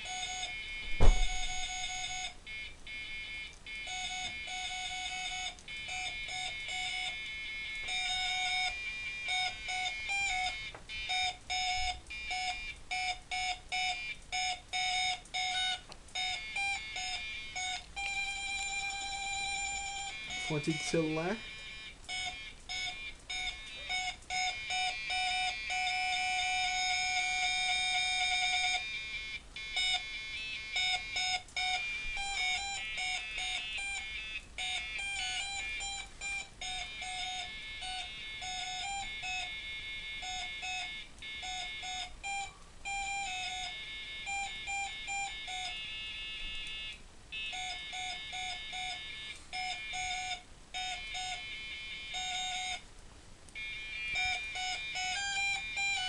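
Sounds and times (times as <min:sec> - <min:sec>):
electronic beeping tones: 0:00.0 - 0:52.8.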